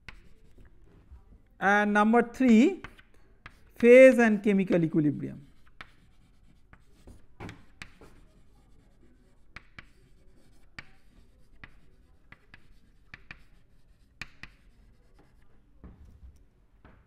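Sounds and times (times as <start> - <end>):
chalk writing on chalkboard: 0.0 - 1.2, 2.4 - 4.2, 4.8 - 16.0.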